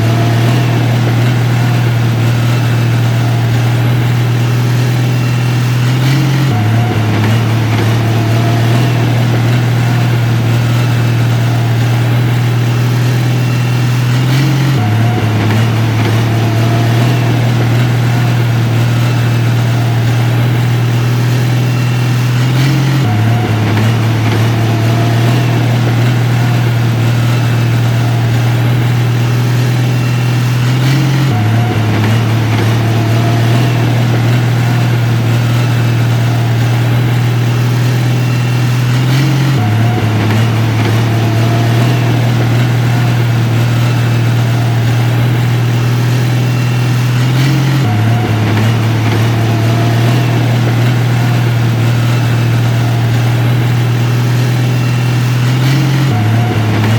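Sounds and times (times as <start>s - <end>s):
heavy diesel engine droning: 0.0s - 56.9s.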